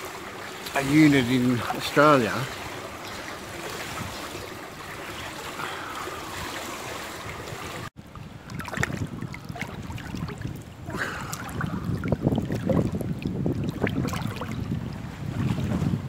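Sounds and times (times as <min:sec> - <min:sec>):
pool water lapping and splashing: 0:00.0 - 0:16.0.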